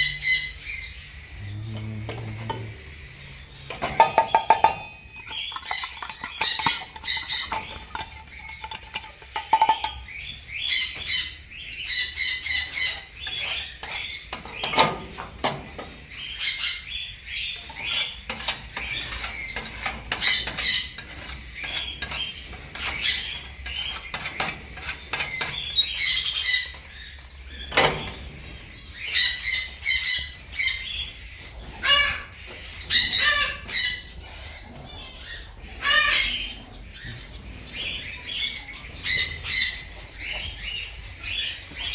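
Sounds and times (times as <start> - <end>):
parrots chattering and squawking: 0.0 - 41.9.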